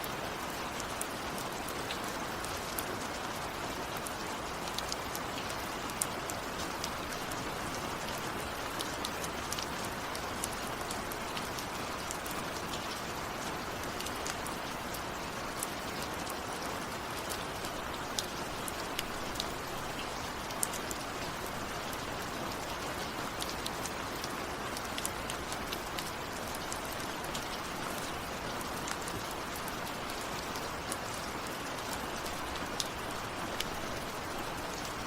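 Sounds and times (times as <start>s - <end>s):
rain falling: 0.0s - 35.0s
raindrops ticking on a surface: 0.0s - 35.0s.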